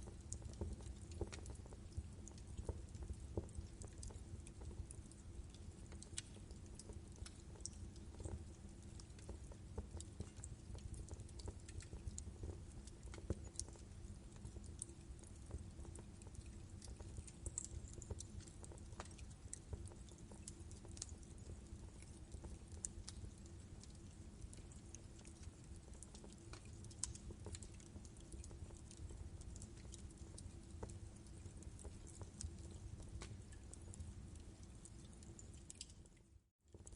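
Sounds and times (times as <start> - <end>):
wood fire crackling: 0.0 - 36.1.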